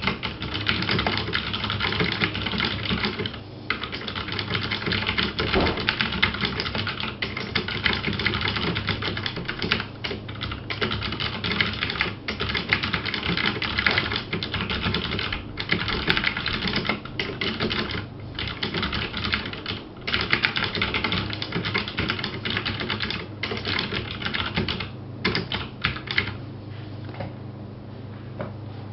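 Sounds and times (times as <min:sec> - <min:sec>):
mechanical keyboard typing: 0:00.0 - 0:26.4.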